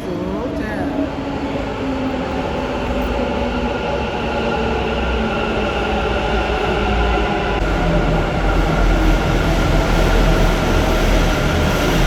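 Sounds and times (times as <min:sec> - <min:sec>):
metro train whine and rumble: 0:00.0 - 0:12.0.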